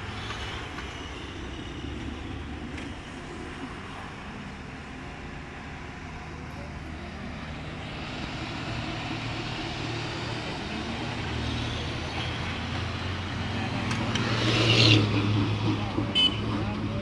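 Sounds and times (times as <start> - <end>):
road and tyre hiss: 0.0 - 17.0.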